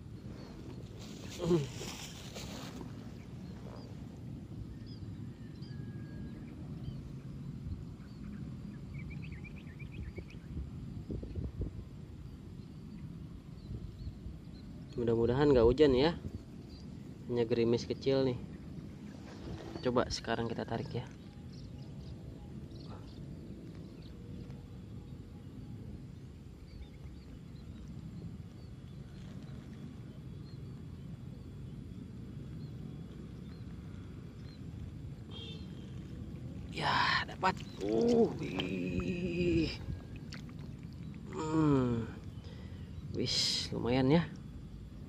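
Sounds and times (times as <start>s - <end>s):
low outdoor rumble: 0.0s - 45.0s.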